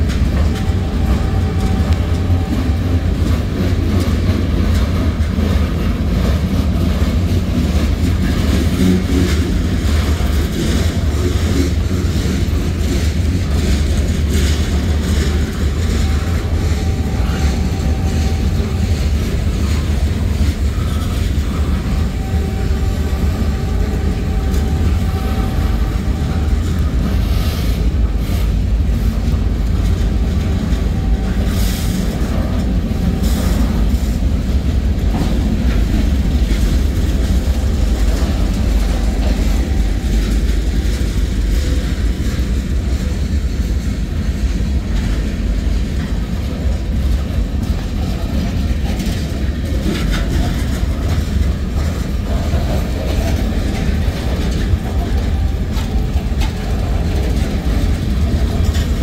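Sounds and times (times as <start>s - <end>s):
train cars clanking: 0.0s - 59.0s
train wheels rumbling on rail: 0.0s - 59.0s.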